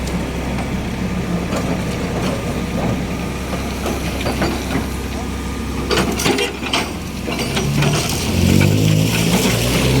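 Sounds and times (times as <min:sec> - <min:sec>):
large engine idling: 0:00.0 - 0:08.0.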